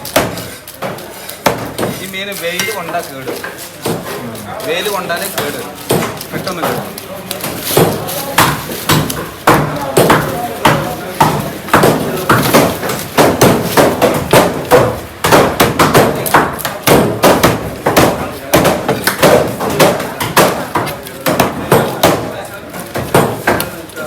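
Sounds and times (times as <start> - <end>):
knife chopping fish: 0.0 - 24.0.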